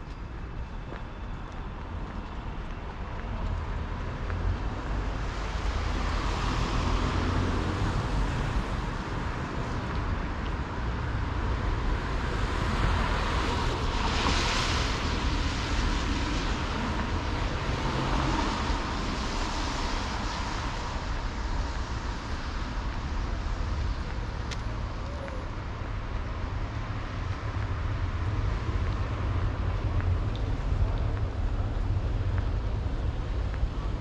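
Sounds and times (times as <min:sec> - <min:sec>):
distant road traffic hum: 0:00.0 - 0:34.0.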